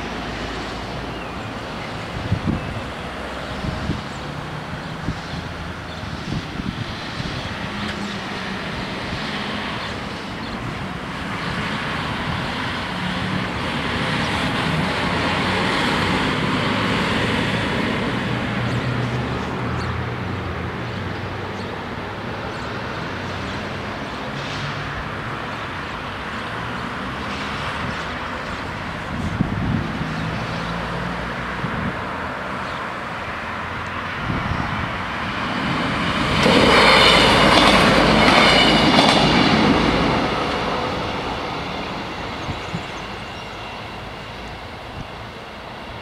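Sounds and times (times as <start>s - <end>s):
heavy truck passing: 0.0s - 46.0s
hum of passing cars: 0.0s - 46.0s.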